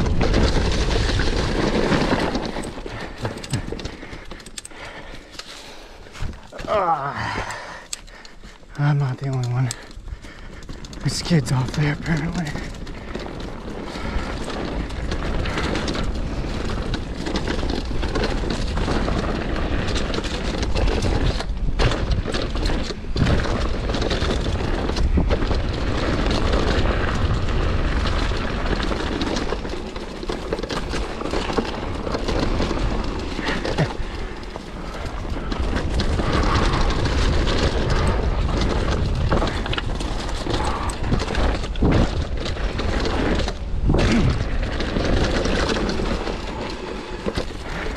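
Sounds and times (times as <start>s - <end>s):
mountain bike rattling on dirt trail: 0.0s - 47.9s
wind buffeting microphone: 0.0s - 47.9s.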